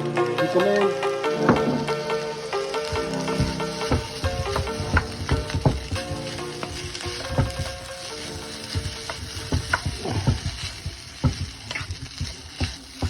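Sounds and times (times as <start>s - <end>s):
rice sizzling in a pan: 0.0s - 13.0s
spatula scraping and knocking pan: 1.3s - 13.0s.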